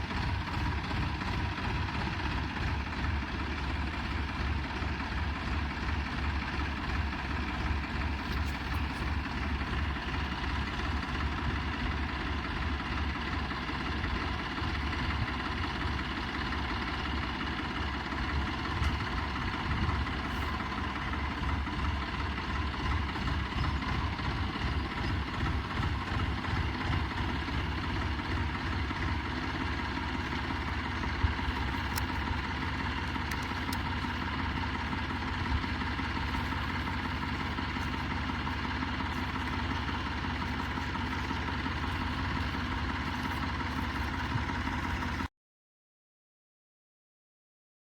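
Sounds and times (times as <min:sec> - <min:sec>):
tractor engine throbbing: 0:00.0 - 0:45.3.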